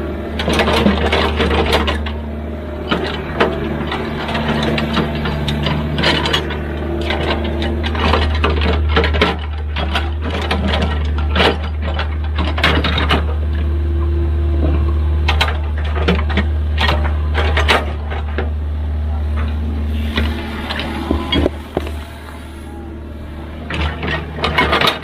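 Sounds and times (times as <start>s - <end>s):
diesel engine humming: 0.0s - 25.0s
digging knocks and clanks: 0.3s - 2.2s, 2.8s - 13.7s, 14.6s - 18.6s, 19.3s - 22.8s, 23.4s - 25.0s.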